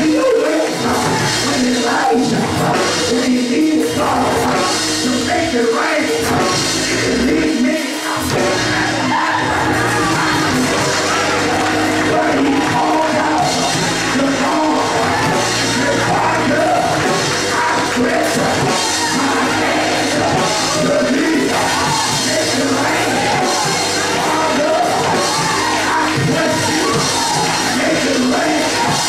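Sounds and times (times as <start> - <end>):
congregation clapping: 0.0 - 3.2, 7.9 - 29.0
man singing and shouting: 0.0 - 11.2, 12.0 - 29.0
gospel music backing: 0.0 - 29.0.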